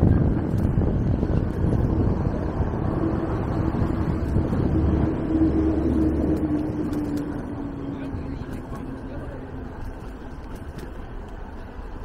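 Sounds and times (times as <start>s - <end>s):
road and traffic noise: 0.0s - 12.0s
wind buffeting microphone: 0.0s - 12.0s.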